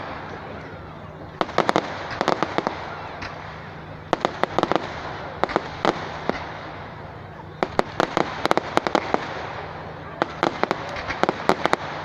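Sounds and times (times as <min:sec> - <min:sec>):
continuous crackling hiss: 0:00.0 - 0:12.0
fireworks cracks and pops: 0:01.4 - 0:07.0, 0:07.6 - 0:12.0.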